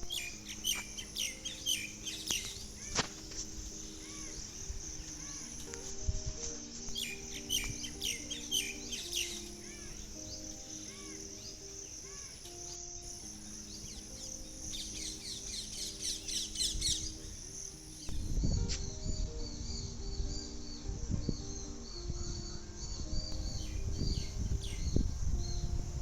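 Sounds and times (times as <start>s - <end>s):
high insect-like buzz: 0.0s - 26.0s
small birds chirping: 0.0s - 26.0s
soft sustained music notes: 0.0s - 26.0s.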